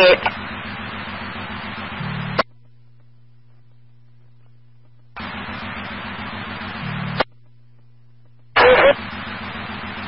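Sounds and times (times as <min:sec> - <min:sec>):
faint steady hum: 0:00.0 - 0:10.0
radio static hiss: 0:00.0 - 0:10.0.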